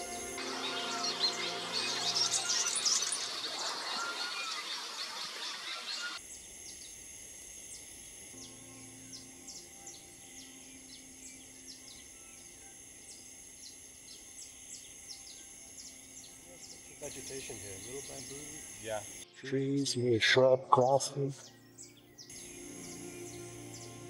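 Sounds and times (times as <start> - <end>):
birds chirping and singing: 0.0 - 6.9, 8.4 - 24.0.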